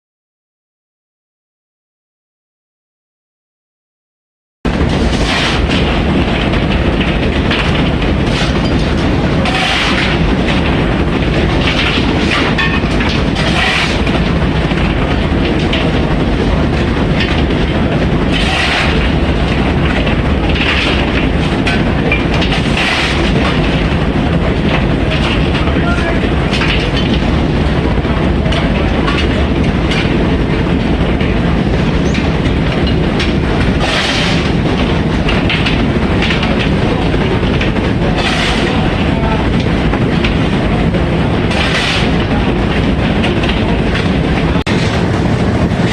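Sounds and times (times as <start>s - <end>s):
machinery din: 4.7s - 45.9s.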